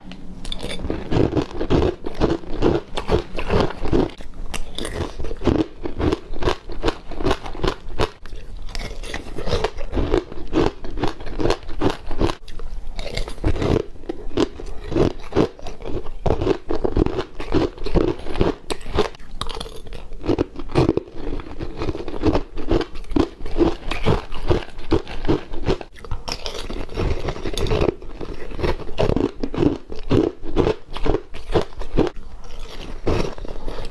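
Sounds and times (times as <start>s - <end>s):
crunching and chewing frost: 0.4s - 33.9s.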